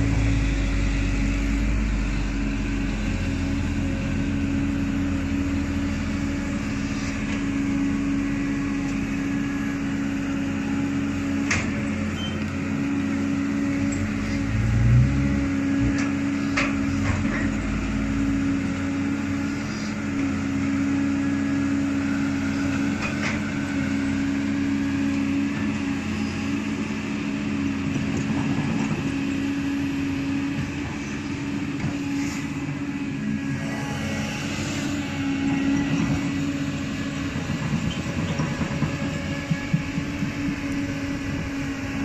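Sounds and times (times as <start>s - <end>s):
excavator diesel engine: 0.0s - 42.0s.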